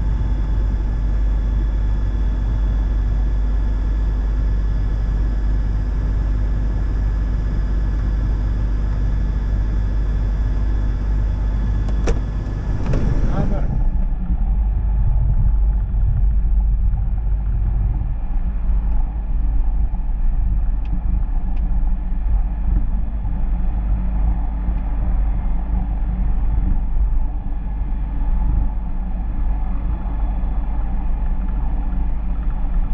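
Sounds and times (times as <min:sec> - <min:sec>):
light aircraft engine rumble: 0:00.0 - 0:32.9.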